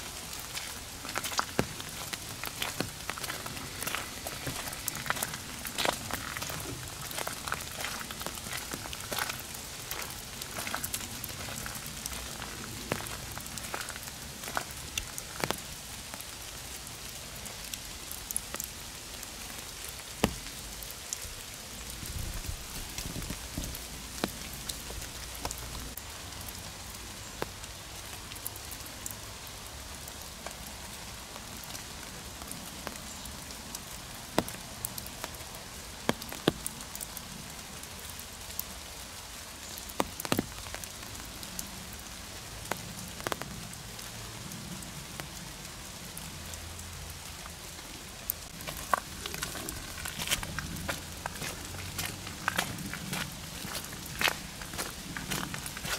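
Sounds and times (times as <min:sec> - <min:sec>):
raindrops ticking close by: 0:00.0 - 0:55.9
steady rain in forest: 0:00.0 - 0:55.9.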